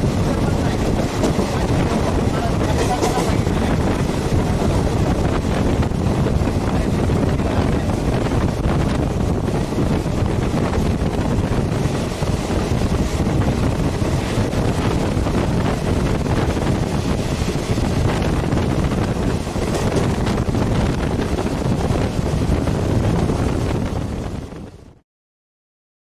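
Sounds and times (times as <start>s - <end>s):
train running rumble: 0.0s - 25.0s
wind buffeting microphone: 0.0s - 25.0s.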